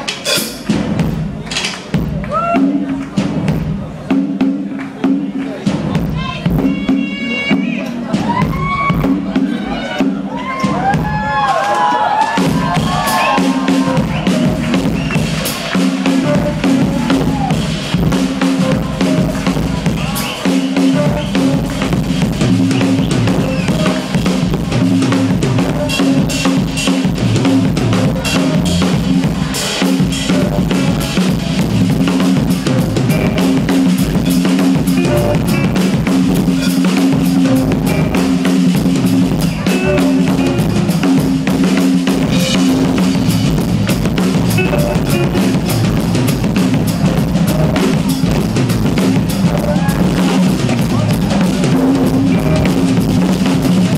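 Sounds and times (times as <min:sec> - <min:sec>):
drum kit solo: 0:00.0 - 0:53.9.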